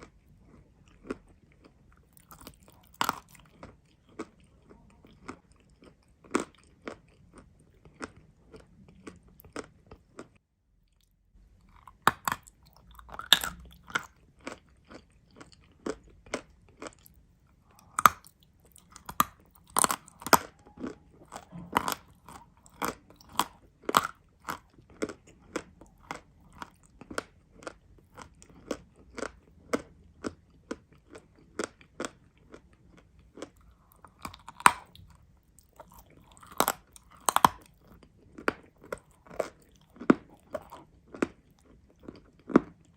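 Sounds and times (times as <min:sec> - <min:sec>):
crunchy chewing: 0:00.0 - 0:42.9.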